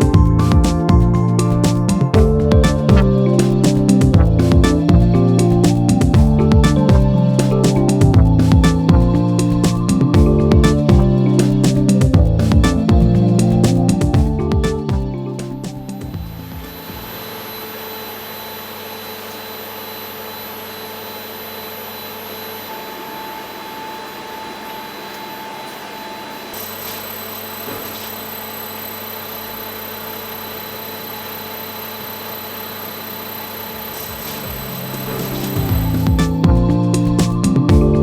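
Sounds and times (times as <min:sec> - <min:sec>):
electrical machinery whirring hum: 0:00.0 - 0:38.0
high whining tones: 0:00.0 - 0:38.0.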